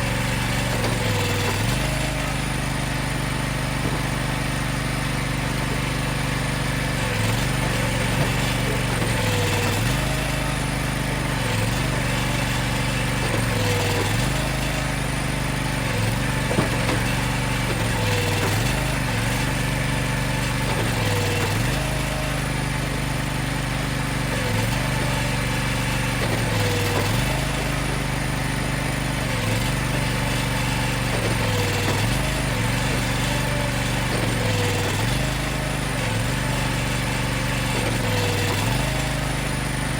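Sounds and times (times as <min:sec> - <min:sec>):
engine loading down under work: 0:00.0 - 0:39.9.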